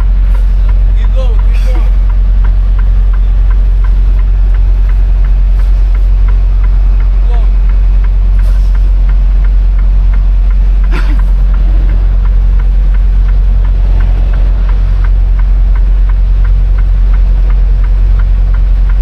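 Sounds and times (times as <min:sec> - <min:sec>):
diesel truck engine idling: 0:00.0 - 0:19.0
light ticking: 0:00.0 - 0:19.0.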